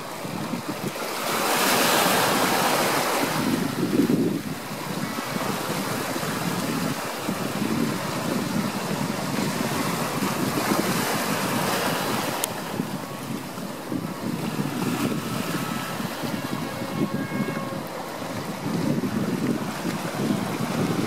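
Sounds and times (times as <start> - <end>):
ocean waves washing in: 0.0 - 21.0
wind: 0.0 - 21.0.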